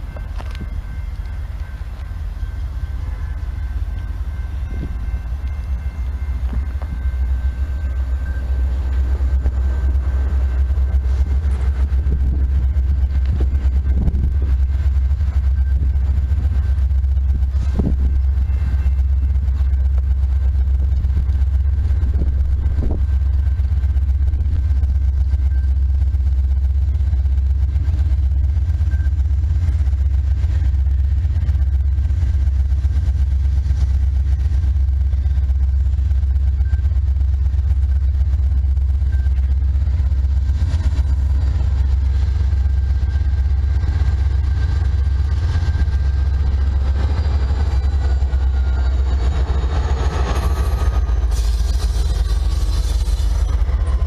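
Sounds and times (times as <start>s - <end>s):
diesel freight train approaching: 0.0s - 54.0s
low rumble: 0.0s - 54.0s.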